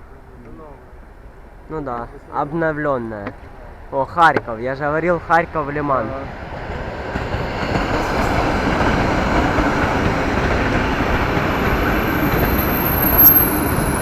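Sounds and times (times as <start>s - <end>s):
train wheels rumbling past: 0.0s - 14.0s.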